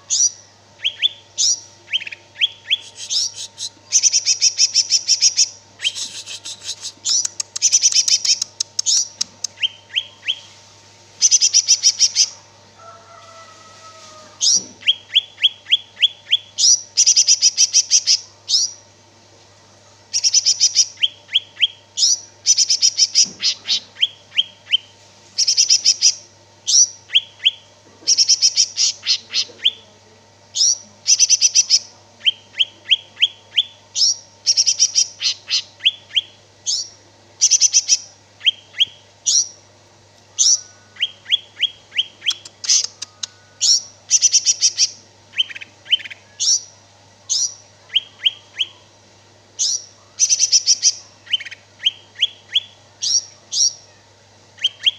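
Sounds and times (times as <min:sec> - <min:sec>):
faint steady low hum: 0:00.0 - 0:54.9.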